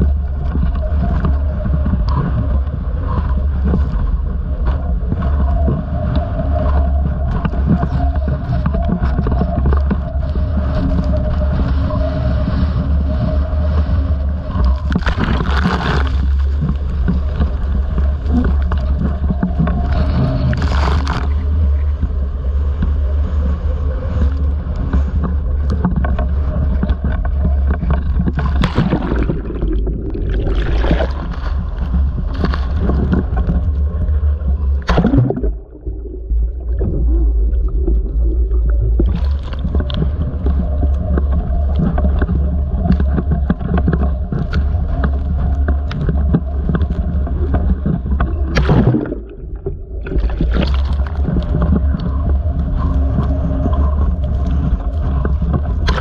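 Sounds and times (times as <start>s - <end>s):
waves surging and breaking: 0.0s - 56.0s
wind buffeting microphone: 0.0s - 56.0s.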